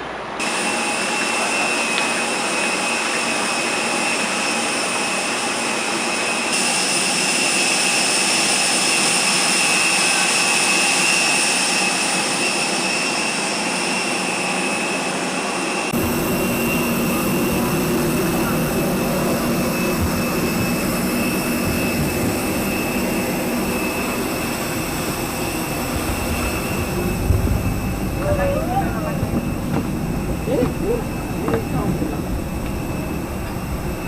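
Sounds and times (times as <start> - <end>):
jet engines whining: 0.0 - 34.0.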